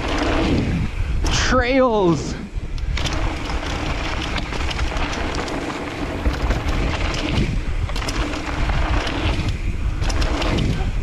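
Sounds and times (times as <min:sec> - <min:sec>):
bike clicks and clatters: 0:00.0 - 0:01.5, 0:02.7 - 0:11.0
tyre and wind noise: 0:00.0 - 0:11.0.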